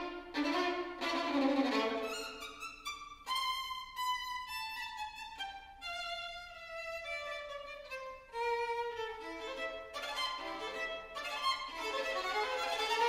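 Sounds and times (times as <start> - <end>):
solo violin melody: 0.0 - 13.0.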